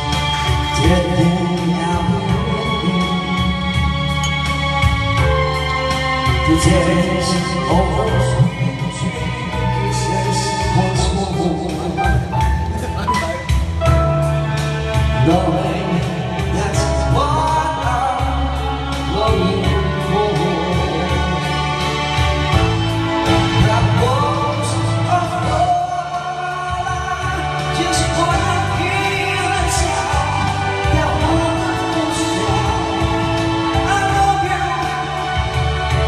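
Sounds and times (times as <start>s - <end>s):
man singing into microphone: 0.0s - 4.1s, 5.8s - 13.6s, 14.5s - 36.0s
backing track with steady beat: 0.0s - 36.0s.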